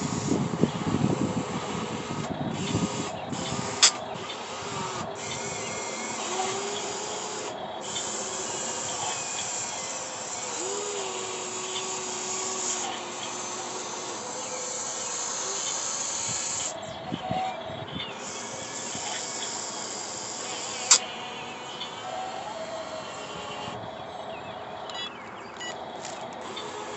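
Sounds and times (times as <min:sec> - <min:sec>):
hydraulic pump hiss: 0:00.0 - 0:24.2, 0:26.0 - 0:26.9
faint motor whine: 0:00.0 - 0:26.9.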